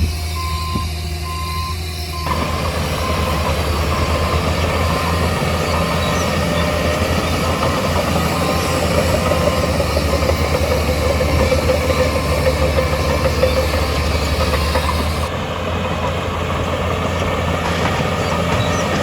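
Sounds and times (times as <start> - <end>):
diesel engine low rumble: 0.0 - 19.0.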